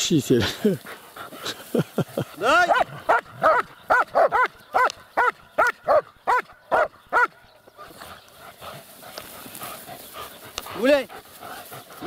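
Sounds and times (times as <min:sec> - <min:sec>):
dogs barking: 0:01.4 - 0:12.0.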